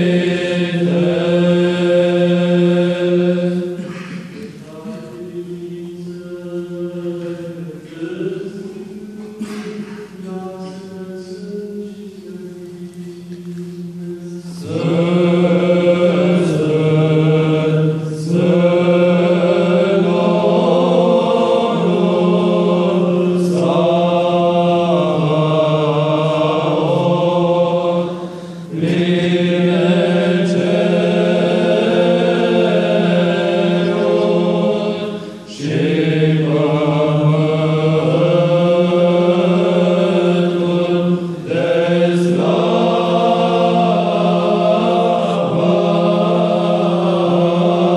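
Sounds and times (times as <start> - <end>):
choir chanting: 0.0 - 47.9
steady vocal drone: 0.0 - 47.9.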